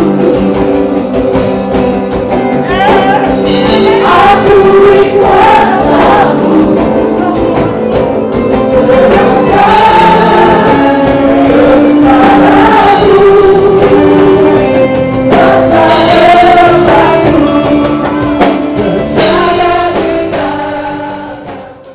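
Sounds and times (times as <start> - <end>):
worship song with singing voices: 0.0 - 21.9.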